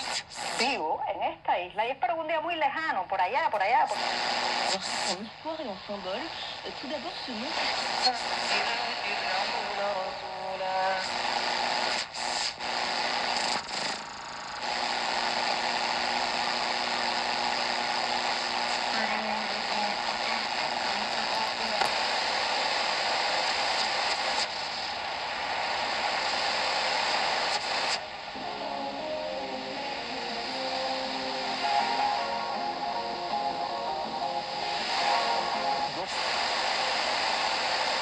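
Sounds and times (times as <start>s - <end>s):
faint radio station audio: 0.0s - 38.0s
radio static hiss: 0.0s - 38.0s.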